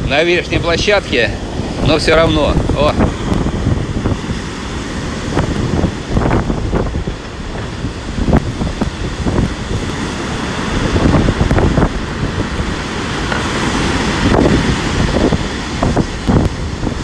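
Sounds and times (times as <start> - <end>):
heavy surf breaking: 0.0 - 17.0
wind buffeting microphone: 0.0 - 17.0.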